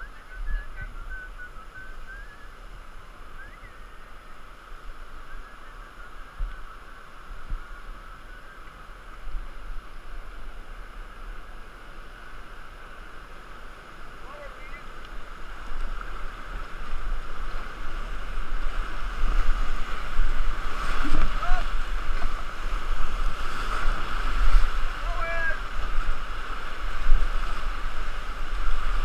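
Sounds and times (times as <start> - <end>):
whitewater river rushing: 0.0 - 29.0.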